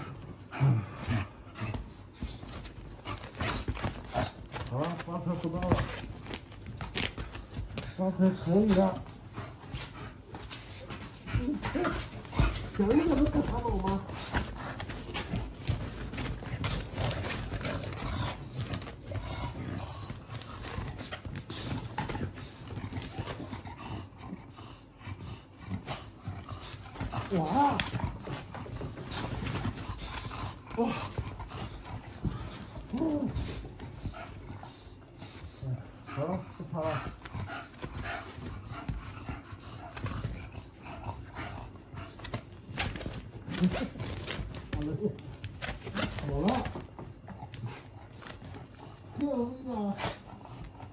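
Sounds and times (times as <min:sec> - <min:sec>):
dog breathing and snuffling: 0:00.0 - 0:50.9.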